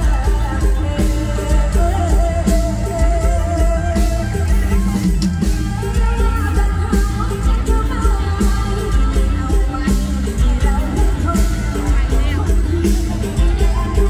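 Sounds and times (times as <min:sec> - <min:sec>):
drum kit beat: 0:00.0 - 0:14.0
heavy bass: 0:00.0 - 0:14.0
person singing: 0:00.0 - 0:14.0.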